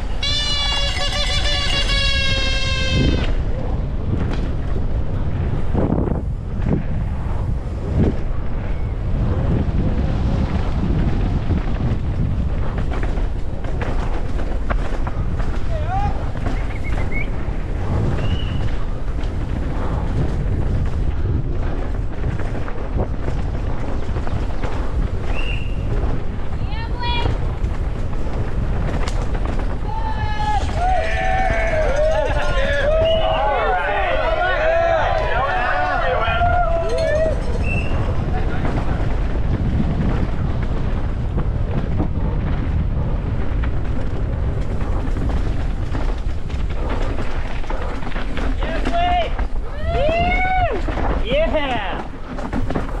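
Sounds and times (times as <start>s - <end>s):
mountain bike clattering on trail: 0.0s - 53.0s
wind rushing over microphone: 0.0s - 53.0s.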